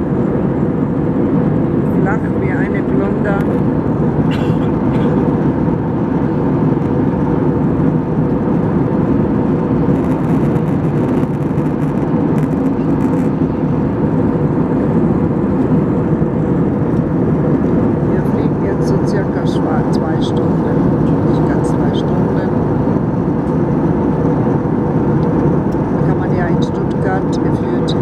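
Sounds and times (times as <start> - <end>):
jet engine drone in cabin: 0.0 - 28.0
rushing airflow: 0.0 - 28.0.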